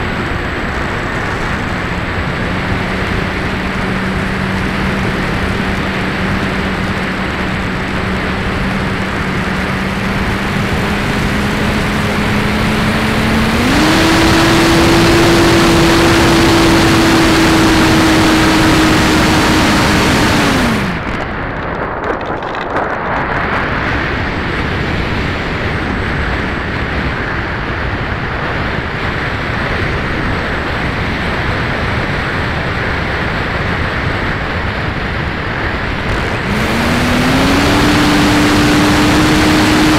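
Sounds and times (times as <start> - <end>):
electric motor and propeller humming: 0.0 - 26.9, 33.6 - 39.9.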